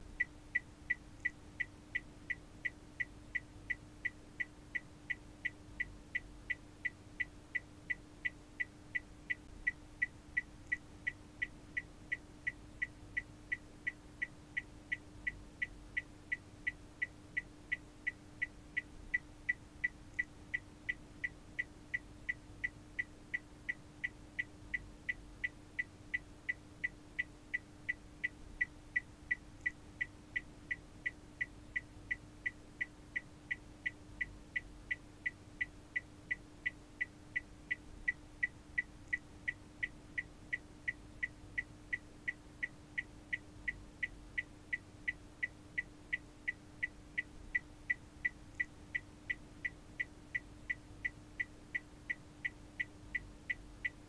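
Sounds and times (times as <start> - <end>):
faint steady hum: 0.0 - 54.0
turn signal ticking: 0.1 - 54.0.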